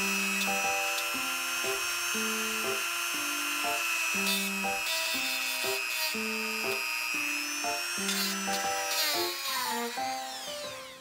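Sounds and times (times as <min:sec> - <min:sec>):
power tool wire brush whining: 0:00.0 - 0:11.0.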